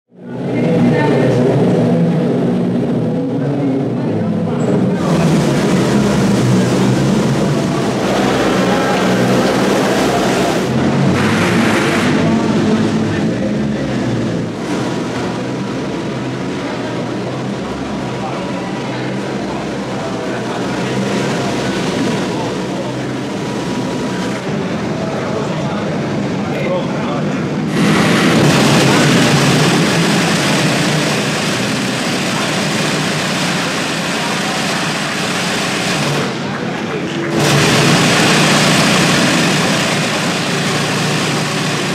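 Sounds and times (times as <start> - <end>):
racing car engine idling: 0.2 - 41.9.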